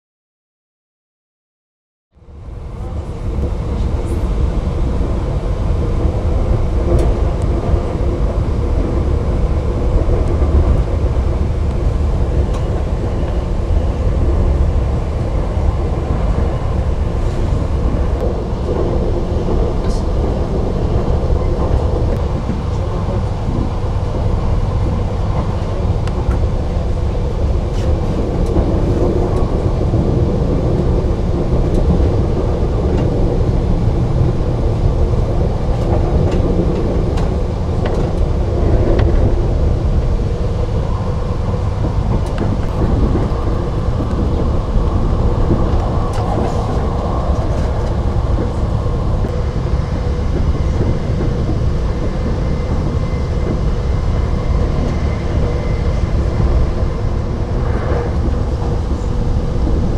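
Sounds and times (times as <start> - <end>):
train wheels rumbling on track: 2.2 - 59.9.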